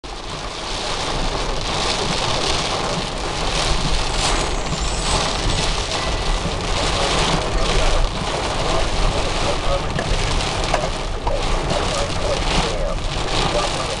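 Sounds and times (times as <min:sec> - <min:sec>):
heavy rain on car windshield: 0:00.0 - 0:14.0
low rumble of moving car: 0:00.0 - 0:14.0.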